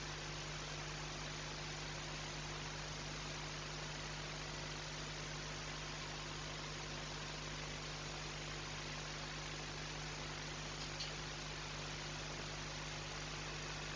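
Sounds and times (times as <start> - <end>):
low electrical hum: 0.0 - 13.9.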